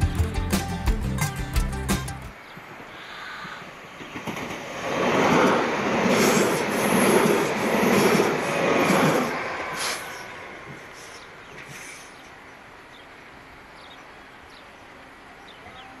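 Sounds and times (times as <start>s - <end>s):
train passing at speed: 2.3s - 16.0s.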